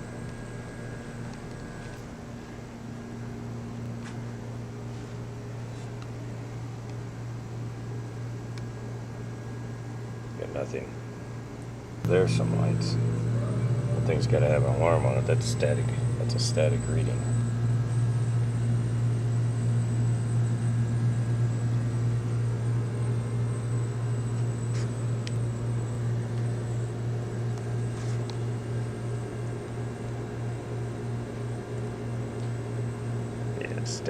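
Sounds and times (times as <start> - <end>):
machine hum with hiss: 0.0 - 34.0.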